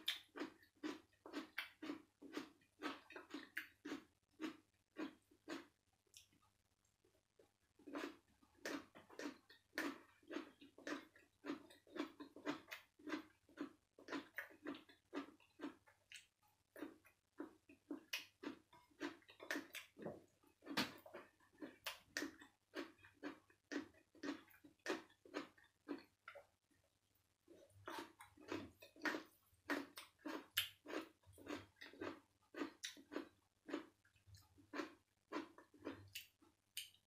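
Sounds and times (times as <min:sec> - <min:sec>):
person chewing food: 0:00.0 - 0:06.6, 0:07.3 - 0:37.0.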